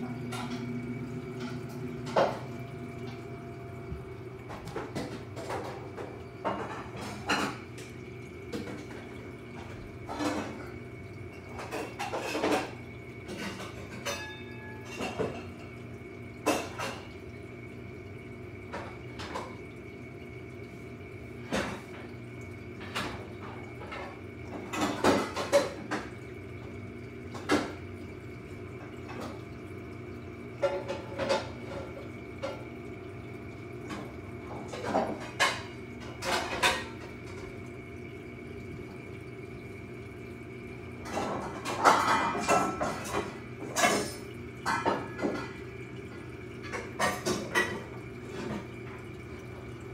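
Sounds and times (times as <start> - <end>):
aquarium pumps humming: 0.0 - 49.9.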